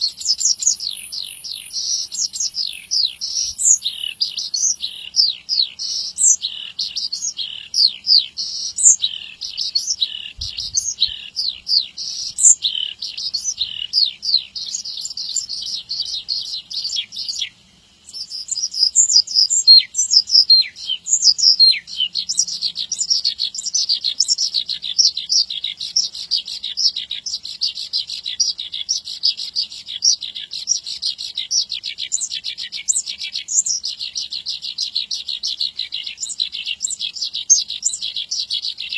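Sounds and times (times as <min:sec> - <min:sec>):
bush lark singing: 0:00.0 - 0:38.9.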